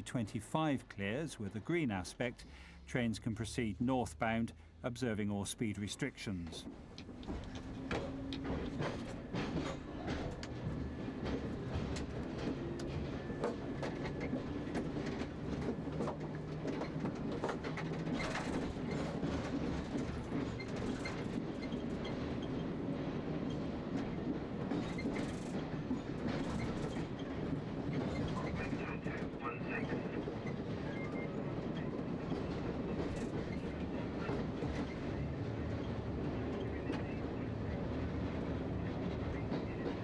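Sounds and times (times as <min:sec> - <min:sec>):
electric train rumbling on track: 0:00.0 - 0:40.0
wheels clacking over rail joints: 0:06.6 - 0:40.0.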